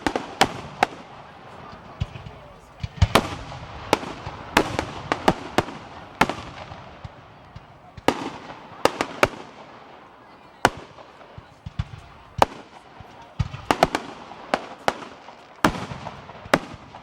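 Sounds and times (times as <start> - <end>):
fireworks bangs echoing: 0.0 - 17.0.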